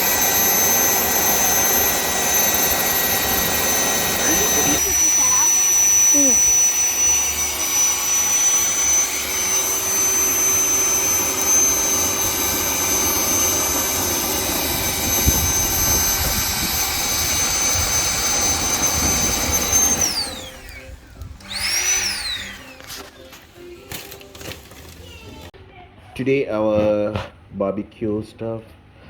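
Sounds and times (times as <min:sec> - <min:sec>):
electric air pump whining: 0:00.0 - 0:25.5.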